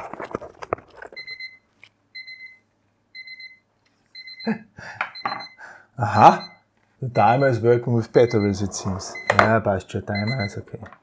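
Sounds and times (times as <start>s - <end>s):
timer alarm beeping: 1.2s - 4.6s, 5.2s - 10.6s.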